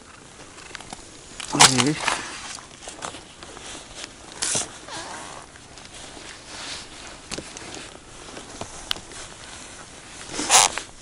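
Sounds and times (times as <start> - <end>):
winter clothing rustling: 0.0 - 11.0.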